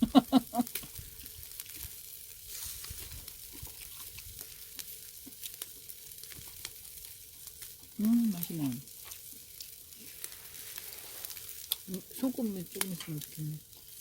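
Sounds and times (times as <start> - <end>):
meat sizzling on a grill: 0.0 - 14.0
small crackles and pops: 0.0 - 14.0.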